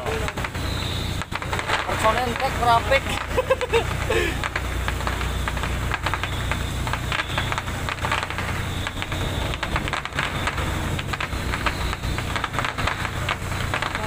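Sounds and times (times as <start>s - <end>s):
crackling and clicking: 0.0s - 14.0s
ship engine droning: 0.0s - 14.0s.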